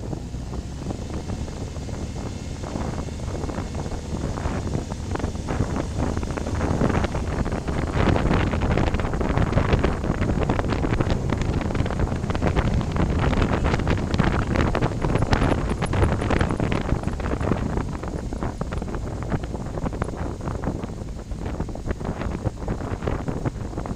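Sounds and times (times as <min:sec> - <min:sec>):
motorcycle engines running: 0:00.0 - 0:23.9
wind buffeting microphone: 0:00.0 - 0:23.9.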